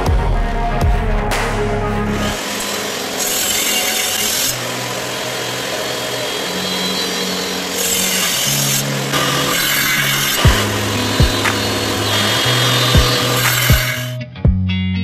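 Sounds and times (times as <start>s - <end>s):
saw blade cutting wood: 2.1s - 14.2s
table saw running: 2.1s - 14.2s.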